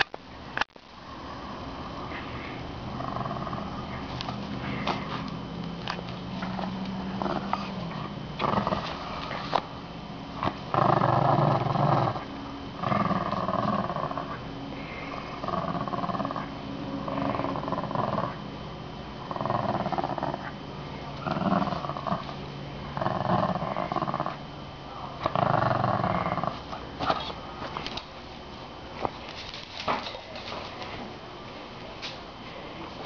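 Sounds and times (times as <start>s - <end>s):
dog play-growling: 1.1s - 31.2s.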